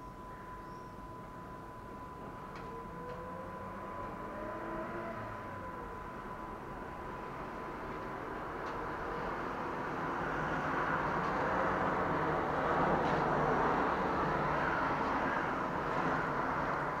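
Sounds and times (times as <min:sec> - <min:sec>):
road traffic passing: 0:01.2 - 0:17.0.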